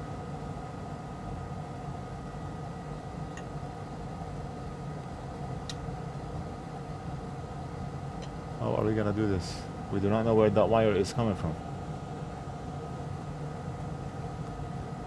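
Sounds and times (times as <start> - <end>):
equipment hum and hiss: 0.0 - 15.0.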